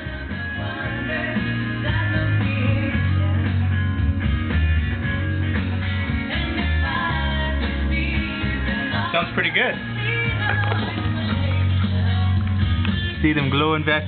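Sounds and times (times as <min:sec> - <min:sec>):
rock music through amplifier: 0:00.0 - 0:14.0.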